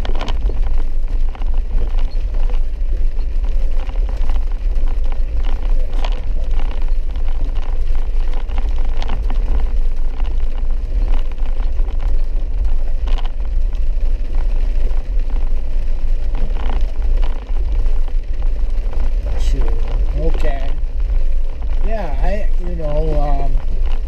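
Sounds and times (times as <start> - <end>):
vehicle driving on dirt road: 0.0 - 24.0.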